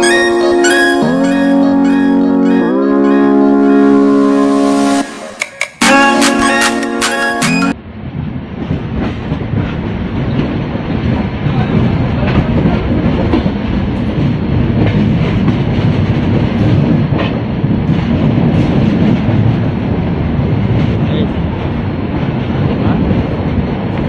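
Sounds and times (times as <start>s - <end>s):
train rumbling on rails: 0.0s - 6.6s, 7.5s - 24.0s.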